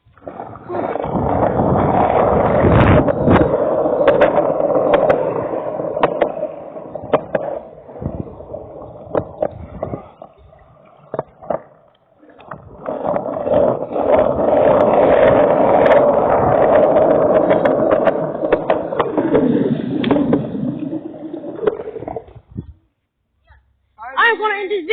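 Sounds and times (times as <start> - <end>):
wind and rain rushing noise: 0.0 - 10.8, 12.4 - 22.8.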